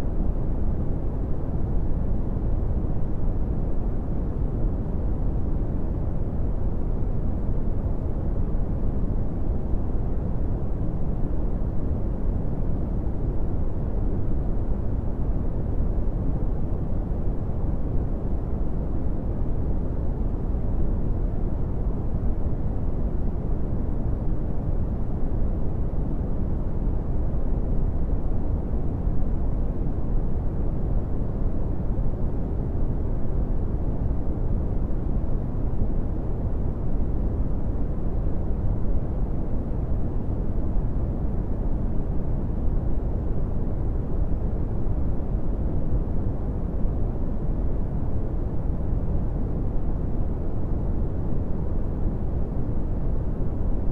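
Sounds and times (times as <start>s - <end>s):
brown noise hiss: 0.0s - 53.9s.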